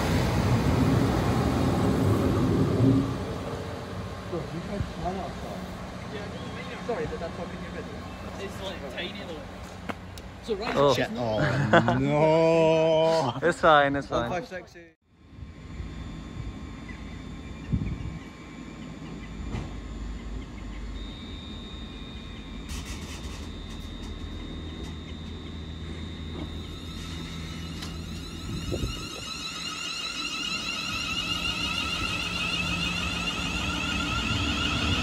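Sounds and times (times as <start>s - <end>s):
traction motor whine: 0.0s - 12.8s, 15.1s - 35.0s
electric train humming: 0.0s - 13.0s, 13.6s - 35.0s.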